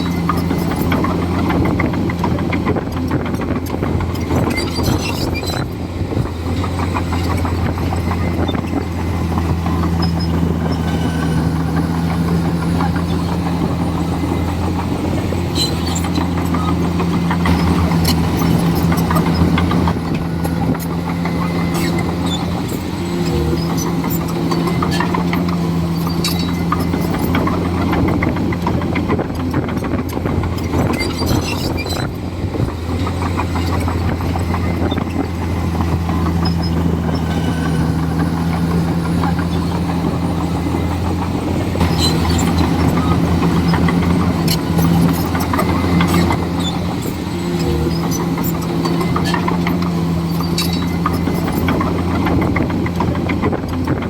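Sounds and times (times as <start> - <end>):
bulldozer diesel engine running: 0.0 - 54.0
sharp clicks and knocks: 0.0 - 54.0.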